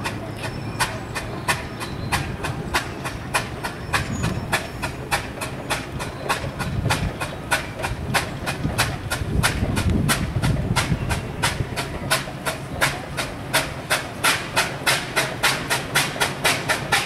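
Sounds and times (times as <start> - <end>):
low mechanical rumble: 0.0 - 17.0
steam engine exhaust chuffing: 0.0 - 17.0.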